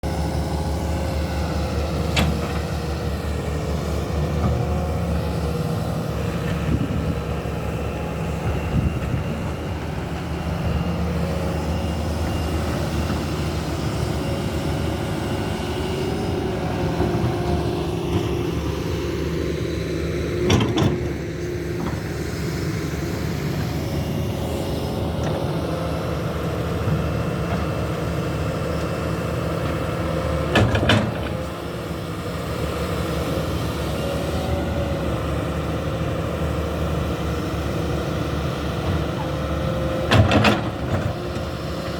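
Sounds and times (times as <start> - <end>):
excavator diesel engines running: 0.0 - 41.9.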